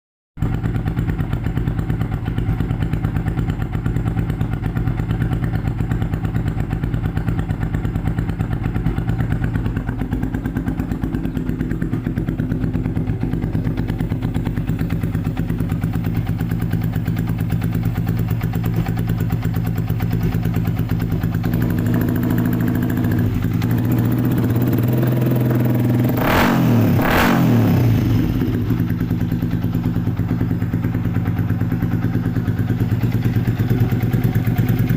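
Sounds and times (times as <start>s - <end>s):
motorcycle engine idling: 0.4s - 34.9s
motorcycle throttle blips: 0.4s - 34.9s.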